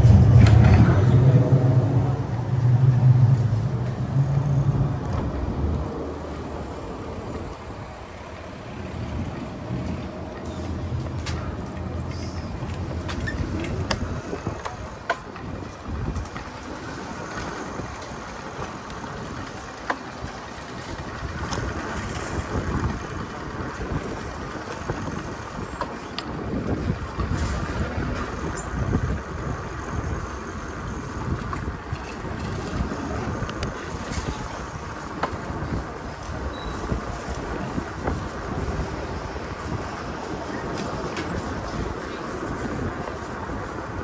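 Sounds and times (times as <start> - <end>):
traffic and street noise: 0.0 - 44.0
wind buffeting microphone: 0.0 - 44.0.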